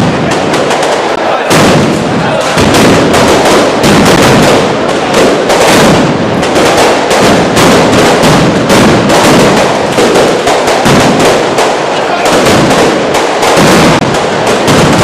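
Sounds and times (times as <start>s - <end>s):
firecrackers going off: 0.0s - 15.0s.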